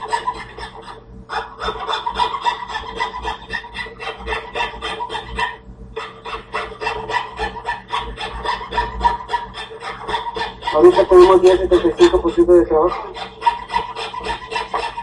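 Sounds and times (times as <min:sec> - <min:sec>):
fretsaw rasping through wood: 0:00.0 - 0:15.0.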